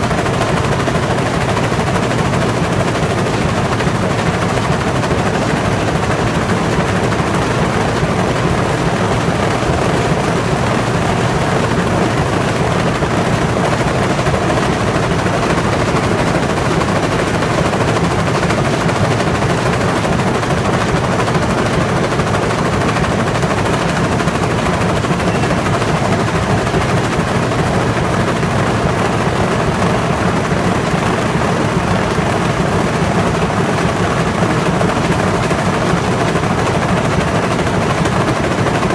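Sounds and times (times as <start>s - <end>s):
machine rapid clatter: 0.0s - 38.9s.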